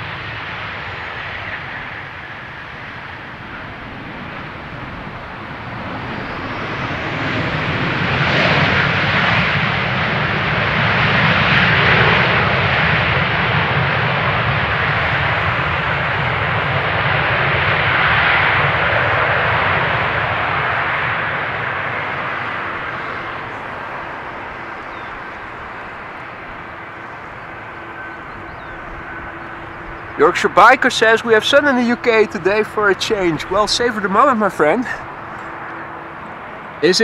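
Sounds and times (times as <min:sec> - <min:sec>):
jet engines on landing rollout: 0:00.0 - 0:37.0.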